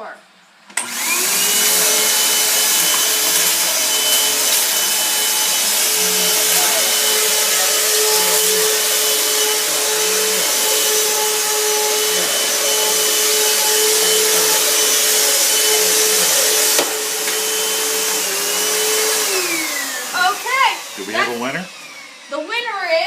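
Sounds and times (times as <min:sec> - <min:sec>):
vacuum cleaner running: 0:00.7 - 0:23.0.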